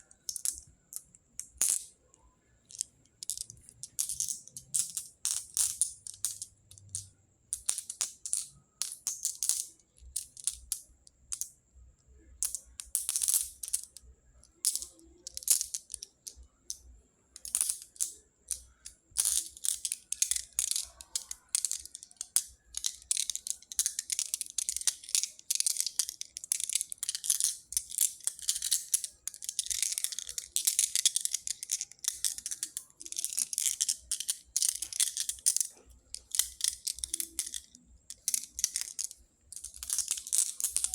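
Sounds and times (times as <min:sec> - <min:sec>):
pebbles clicking and rattling: 0:00.0 - 0:40.9.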